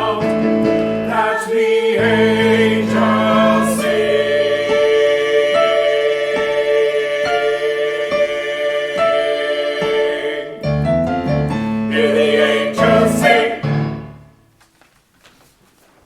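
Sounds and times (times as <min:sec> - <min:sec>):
church choir singing: 0:00.0 - 0:14.4
piano chords: 0:00.0 - 0:14.6.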